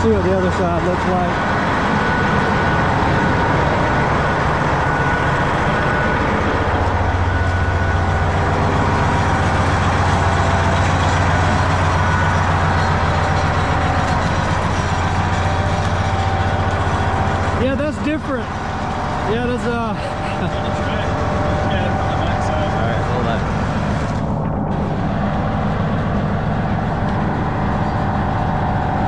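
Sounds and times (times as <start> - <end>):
heavy engine idling: 0.0 - 29.0.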